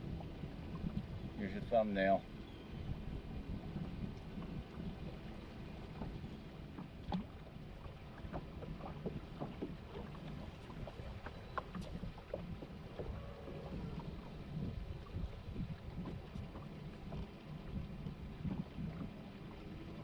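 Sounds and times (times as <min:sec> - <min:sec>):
water lapping against boat hull: 0:00.0 - 0:20.0.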